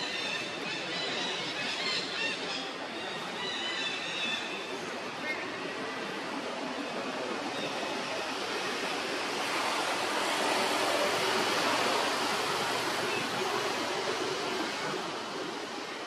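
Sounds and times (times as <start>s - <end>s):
steady outdoor rushing noise: 0.0s - 16.0s.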